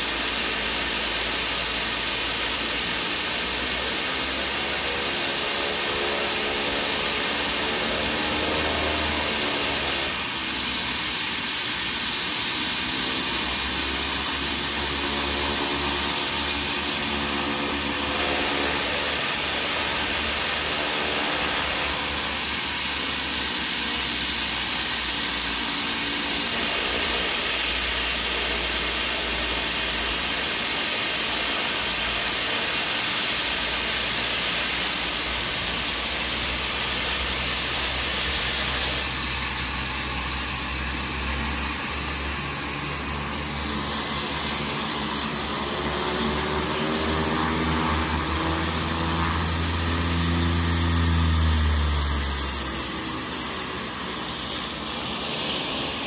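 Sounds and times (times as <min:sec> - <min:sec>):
propeller plane engines: 0:00.0 - 0:56.0.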